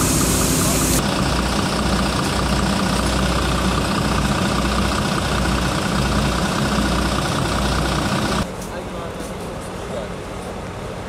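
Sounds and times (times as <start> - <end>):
heavy vehicle engine idling: 0.0 - 11.0.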